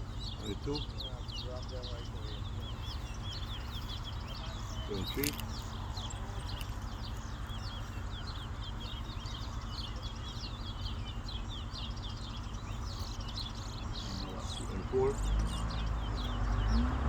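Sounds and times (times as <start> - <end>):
low background rumble: 0.0 - 17.0
songbird twittering song: 0.0 - 17.0.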